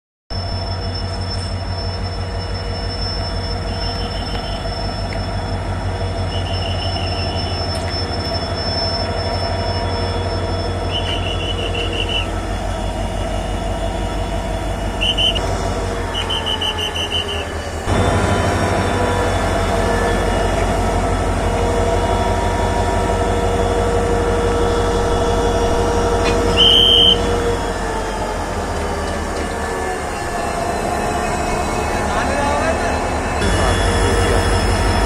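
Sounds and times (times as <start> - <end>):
locomotive rumbling: 0.3 - 35.0.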